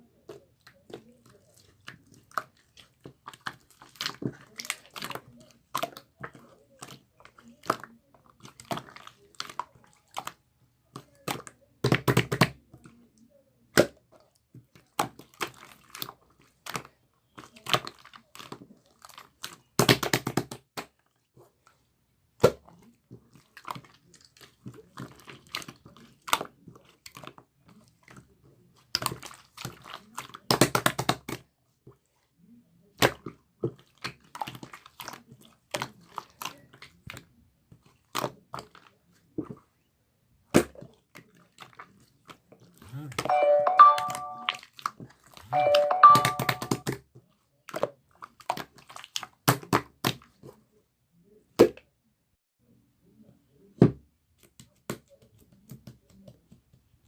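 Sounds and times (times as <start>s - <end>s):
hands squishing slime: 0.0s - 43.3s, 47.6s - 50.7s.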